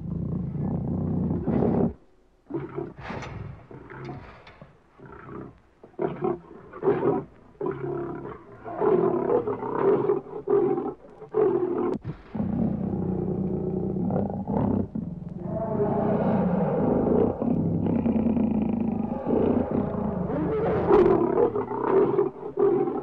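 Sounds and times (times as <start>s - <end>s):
lion roaring: 0.0s - 4.4s, 5.0s - 23.0s.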